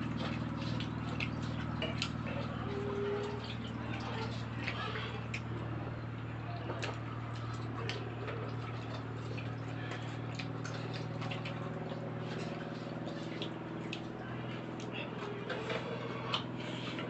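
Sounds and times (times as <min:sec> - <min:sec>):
steady low hum: 0:00.0 - 0:17.0
utensils clicking and chewing: 0:00.1 - 0:17.0.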